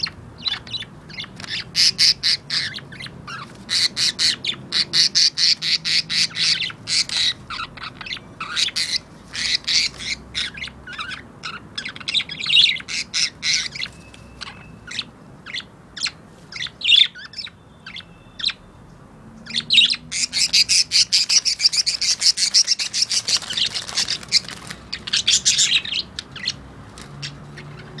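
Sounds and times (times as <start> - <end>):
budgerigars chattering: 0.0 - 18.7, 19.4 - 28.0.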